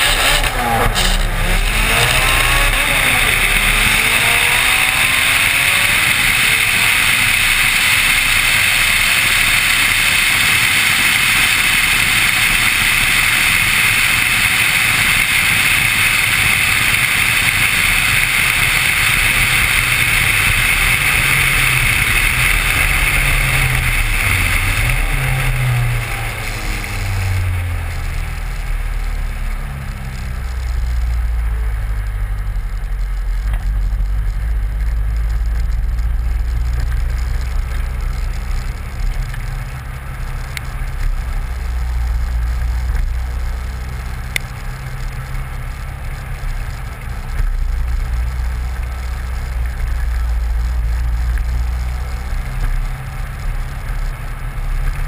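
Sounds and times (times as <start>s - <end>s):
car engine: 0.0s - 55.0s.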